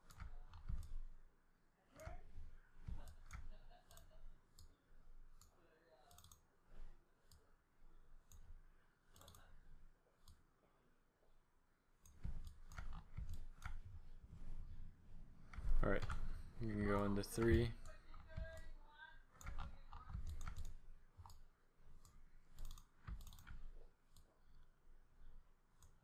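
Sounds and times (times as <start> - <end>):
computer mouse and key clicks: 0.0 - 1.2, 1.9 - 7.5, 8.1 - 10.5, 12.0 - 26.0.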